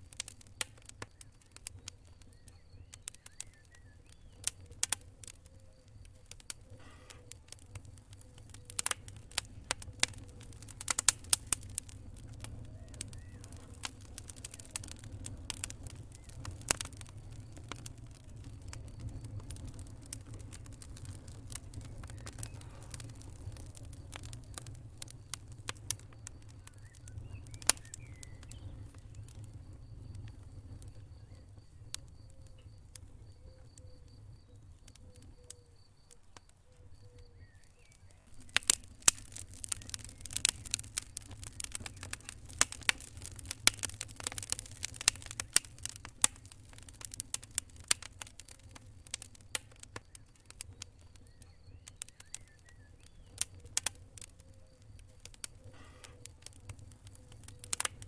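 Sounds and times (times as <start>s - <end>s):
fire rumbling and crackling: 0.0s - 58.0s.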